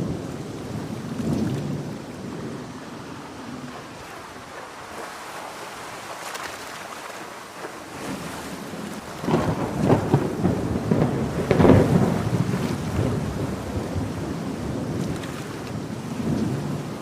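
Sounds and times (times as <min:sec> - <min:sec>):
thunder rumbling: 0:00.0 - 0:05.1, 0:08.0 - 0:17.0
heavy rain: 0:00.0 - 0:17.0.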